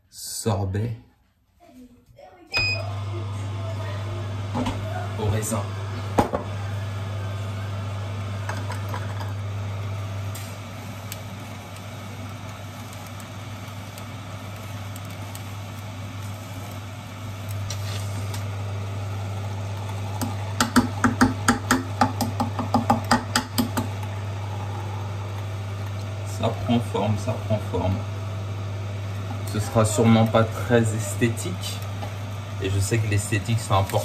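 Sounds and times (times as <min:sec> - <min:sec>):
juicer motor humming: 0:02.6 - 0:34.0.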